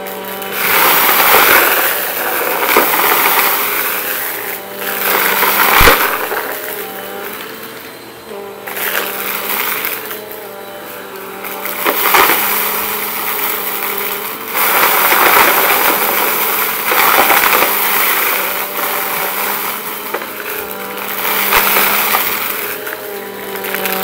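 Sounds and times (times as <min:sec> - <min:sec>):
debris crunching and rattling: 0:00.0 - 0:07.6, 0:08.7 - 0:24.0
vacuum cleaner motor hum: 0:00.0 - 0:24.0.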